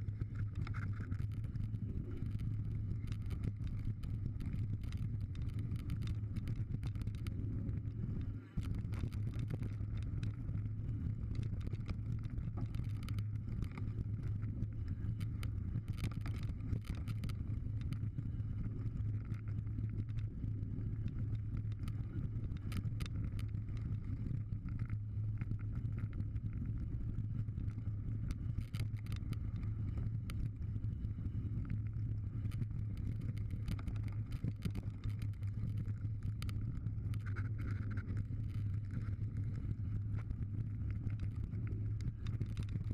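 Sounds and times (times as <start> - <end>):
wind: 0.0 - 42.9.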